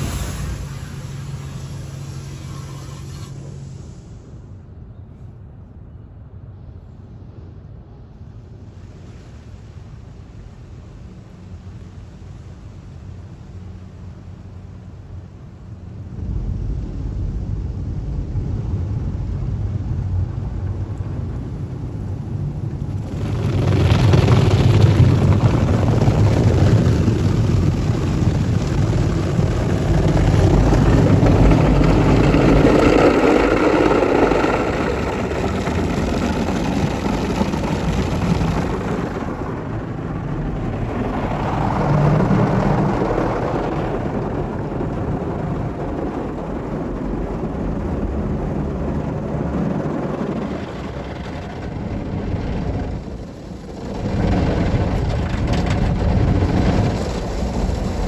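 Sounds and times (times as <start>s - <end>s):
car wash spraying water and machinery: 0.0s - 4.5s, 8.4s - 58.0s.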